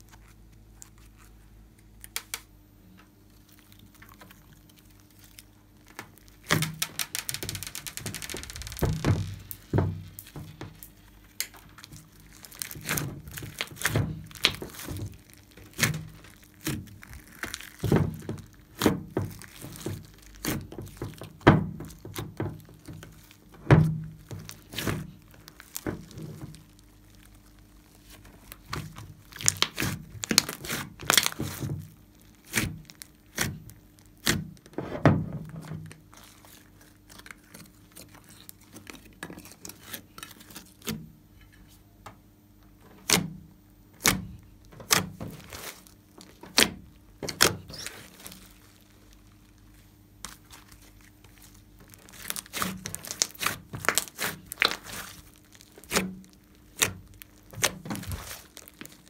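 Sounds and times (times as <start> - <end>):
slime squelching and popping: 3.2 - 34.7, 35.3 - 41.0, 44.0 - 59.0.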